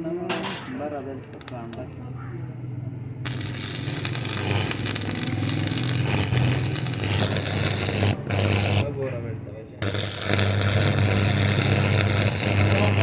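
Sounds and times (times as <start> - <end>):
welder low hum: 0.0 - 13.0
welding arc crackle: 0.4 - 1.8, 3.2 - 13.0.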